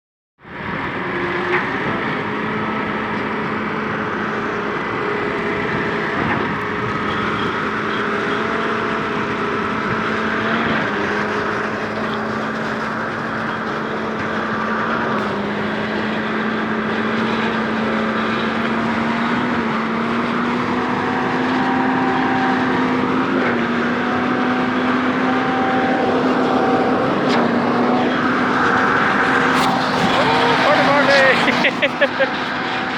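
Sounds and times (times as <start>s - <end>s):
diesel engine running at high speed: 0.4s - 32.9s.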